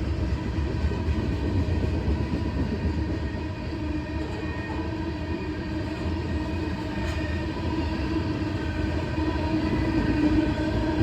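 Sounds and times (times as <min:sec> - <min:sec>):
freight train rumbling by: 0:00.0 - 0:11.0.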